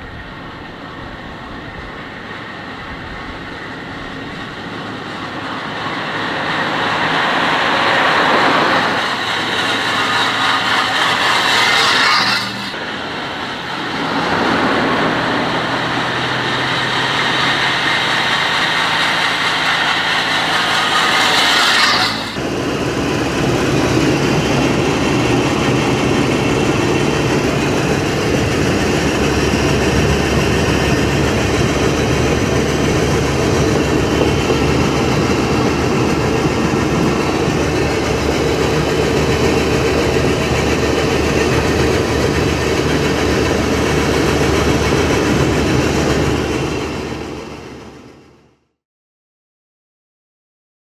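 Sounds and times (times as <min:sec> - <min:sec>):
car engine running: 0:01.9 - 0:47.8.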